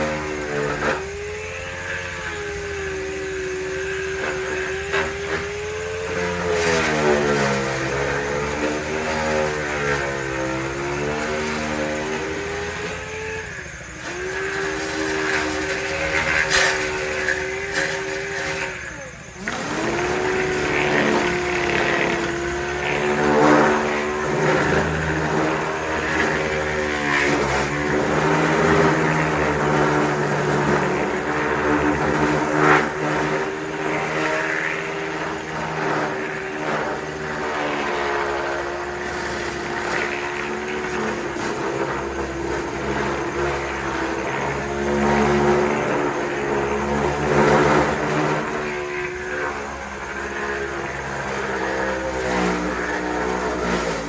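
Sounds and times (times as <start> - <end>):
power sander on metal: 0.0 - 54.0.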